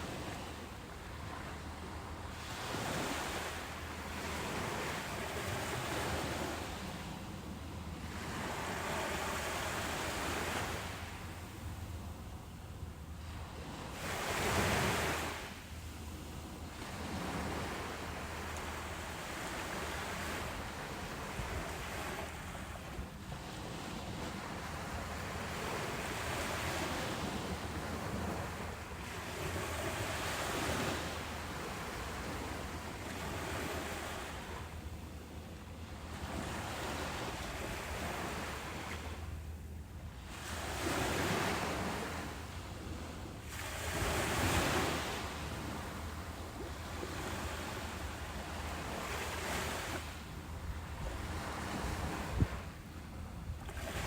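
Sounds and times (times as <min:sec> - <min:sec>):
ocean waves breaking on beach: 0:00.0 - 0:39.4, 0:40.0 - 0:54.0.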